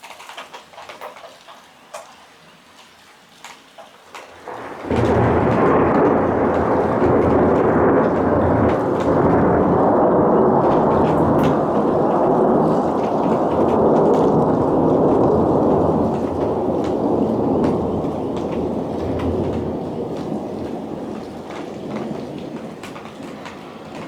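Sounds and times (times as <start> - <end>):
faint rain ticking: 0.0 - 24.0
loud thunderclap rumbling: 4.4 - 24.0.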